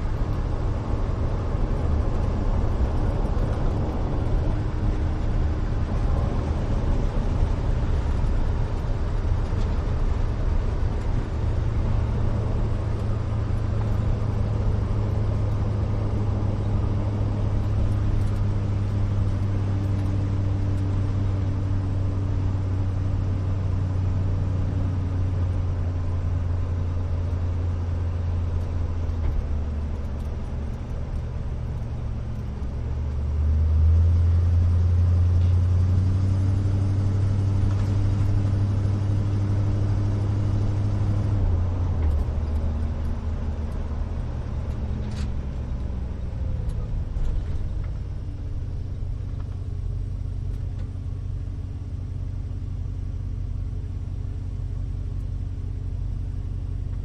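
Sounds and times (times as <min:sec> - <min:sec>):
pickup engine drone: 0:00.0 - 0:57.0
tyre and road noise: 0:00.0 - 0:57.0.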